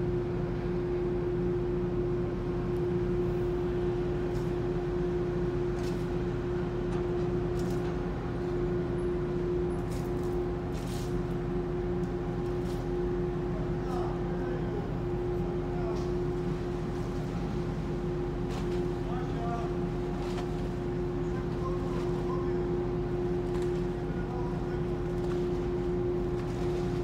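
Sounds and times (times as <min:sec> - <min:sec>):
ferry engines droning: 0:00.0 - 0:27.0.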